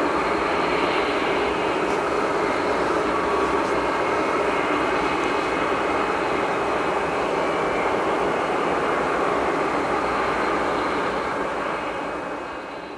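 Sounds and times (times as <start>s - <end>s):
jet engines rumbling with whine: 0.0s - 12.9s.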